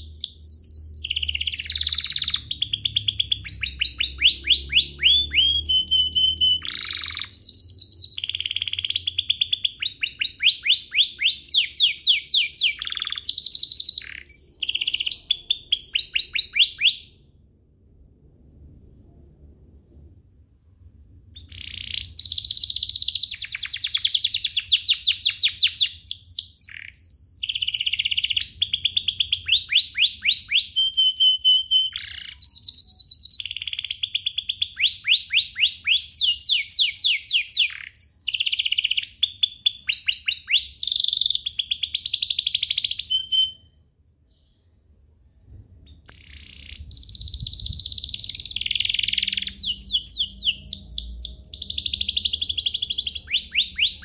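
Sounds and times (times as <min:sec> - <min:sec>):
canary singing trills: 0:00.0 - 0:17.3, 0:21.4 - 0:43.7, 0:45.9 - 0:54.0.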